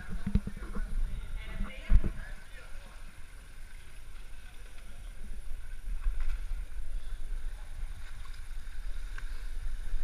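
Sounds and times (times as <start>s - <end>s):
water sloshing in a pool: 0.0s - 10.0s.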